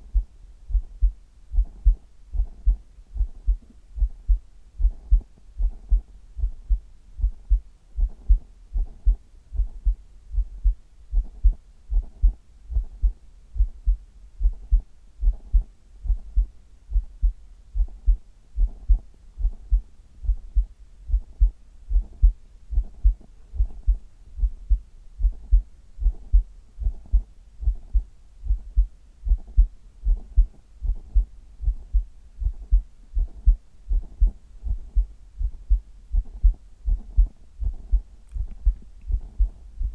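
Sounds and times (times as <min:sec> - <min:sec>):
human heartbeat: 0:00.0 - 0:39.9.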